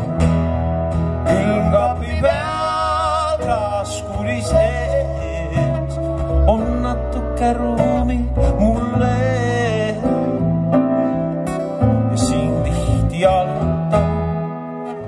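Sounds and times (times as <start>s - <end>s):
acoustic guitar: 0.0s - 15.0s
electric piano: 0.0s - 15.0s
man singing with vibrato: 1.2s - 15.0s.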